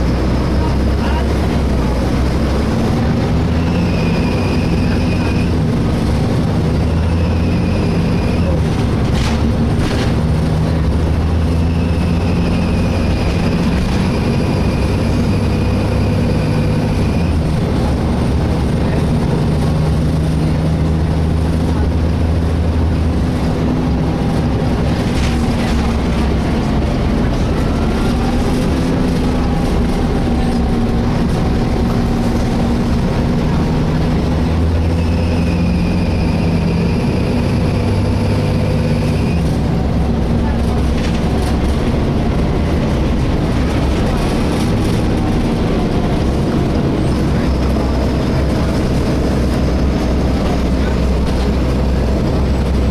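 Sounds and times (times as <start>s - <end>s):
bus engine and road noise: 0.0s - 52.9s.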